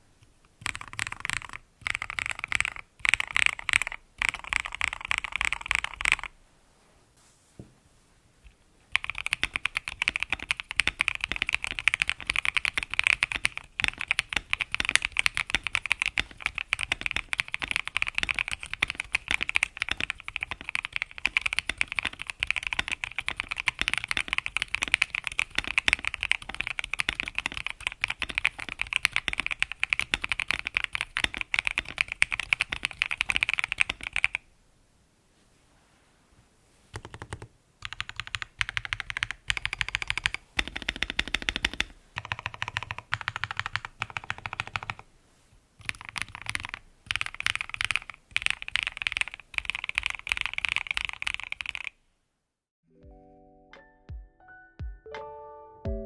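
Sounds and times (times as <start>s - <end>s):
mechanical keyboard typing: 0.6s - 6.3s, 8.9s - 34.4s, 37.0s - 45.0s, 45.8s - 52.0s.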